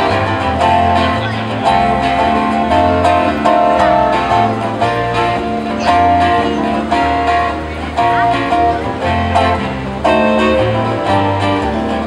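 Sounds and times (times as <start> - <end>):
string trio playing through speaker: 0.0 - 12.0.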